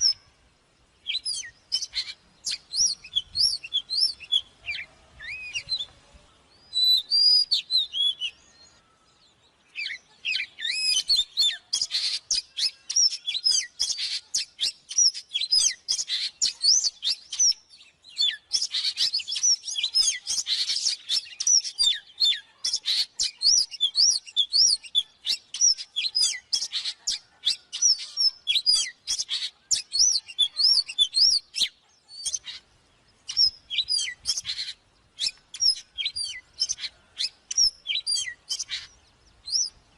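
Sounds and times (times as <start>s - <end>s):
magpie-robin singing: 0.0s - 0.3s, 1.0s - 39.9s.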